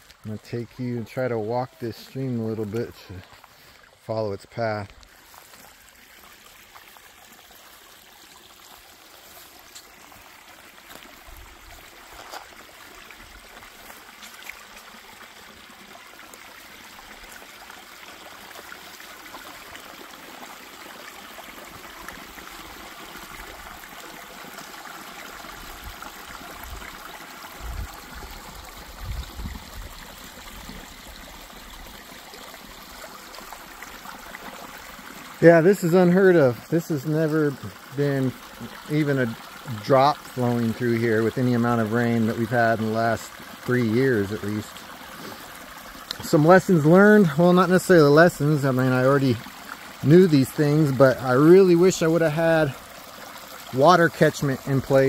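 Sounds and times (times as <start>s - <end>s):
creek water babbling over rocks: 0.0s - 55.0s.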